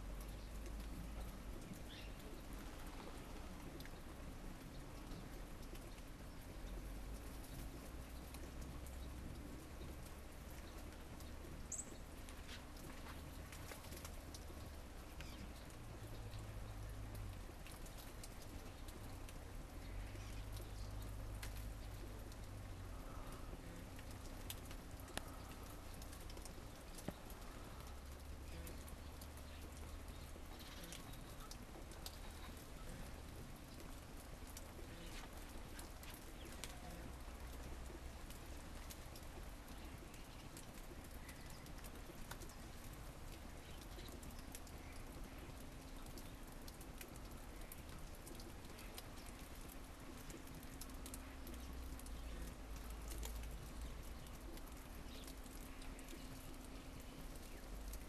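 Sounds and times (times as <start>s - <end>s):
steady hiss with small ticks: 0.0s - 58.0s.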